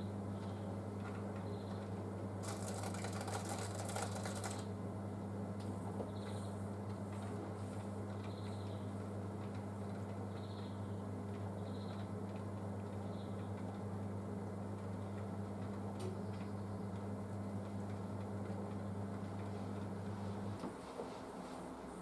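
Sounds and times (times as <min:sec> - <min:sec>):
washing machine humming: 0:00.0 - 0:22.0.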